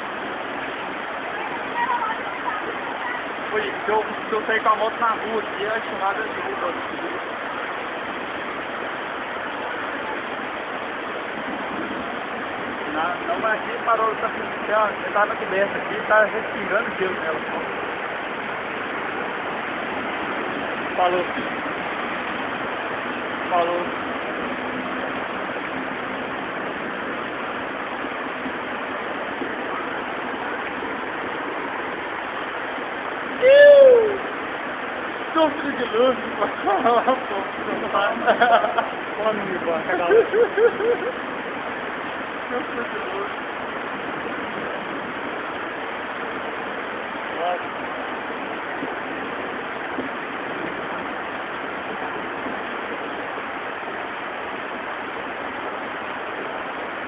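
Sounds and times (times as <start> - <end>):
floodwater rushing in street: 0.0 - 57.0
heavy rain: 0.0 - 57.0.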